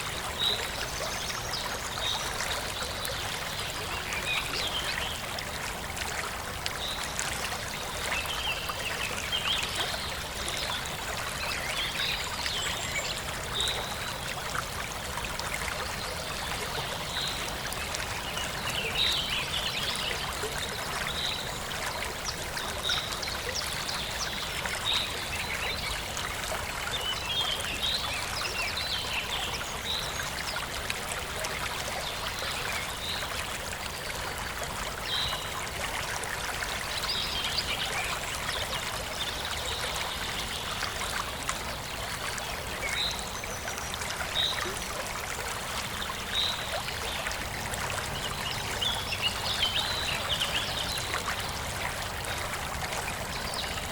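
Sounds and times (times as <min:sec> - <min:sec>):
stream babbling over stones: 0:00.0 - 0:53.9.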